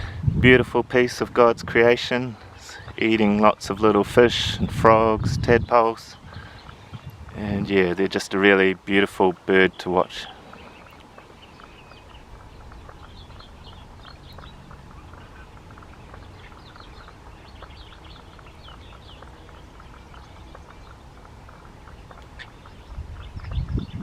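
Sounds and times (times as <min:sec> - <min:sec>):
wetland birds chirping: 0:00.8 - 0:24.0.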